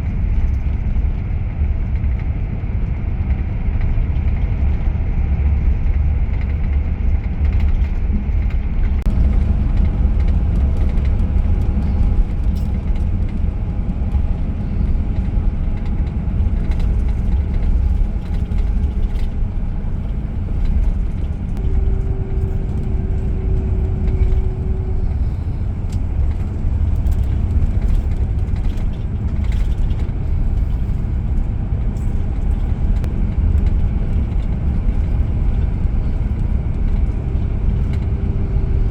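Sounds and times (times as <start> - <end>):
coach engine and road rumble: 0.0 - 38.9.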